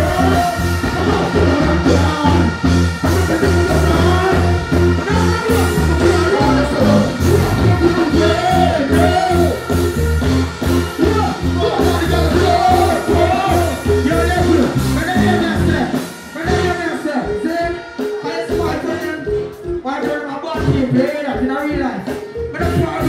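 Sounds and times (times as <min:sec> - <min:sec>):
person rapping into microphone: 0:00.0 - 0:09.6, 0:11.0 - 0:23.0
dancehall beat with heavy bass: 0:00.0 - 0:23.0.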